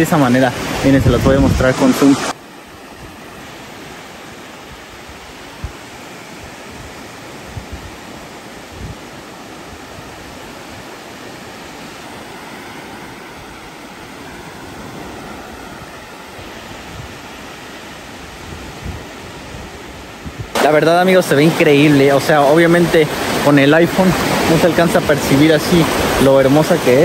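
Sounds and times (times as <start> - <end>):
sea surf washing on beach: 0.0 - 27.0.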